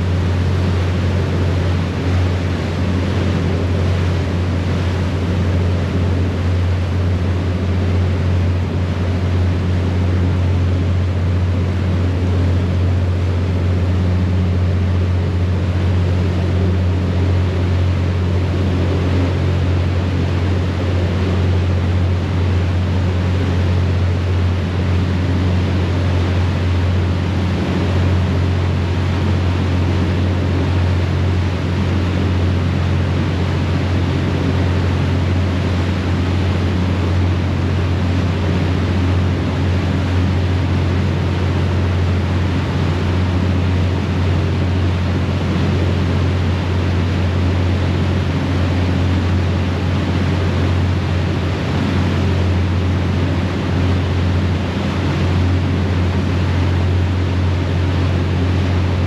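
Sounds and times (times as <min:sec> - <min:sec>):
churning propeller wake: 0:00.0 - 0:59.0.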